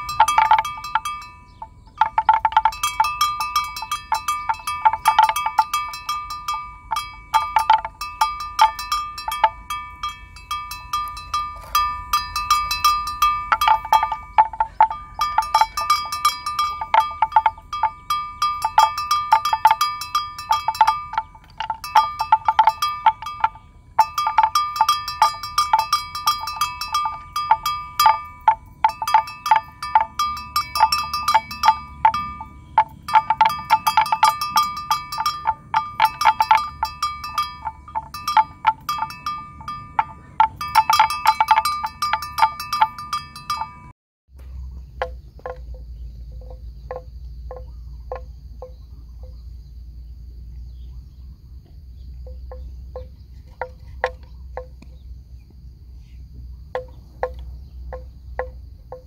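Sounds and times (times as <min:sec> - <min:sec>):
metal livestock bell clanking: 0:00.0 - 0:50.1, 0:51.9 - 0:55.2, 0:56.4 - 0:59.0.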